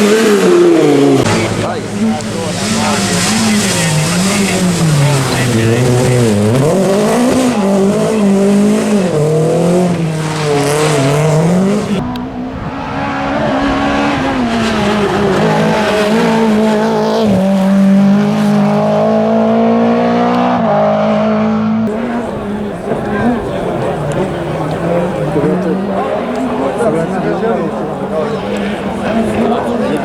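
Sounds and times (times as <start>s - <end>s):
rally car engine revving: 0.0s - 30.0s.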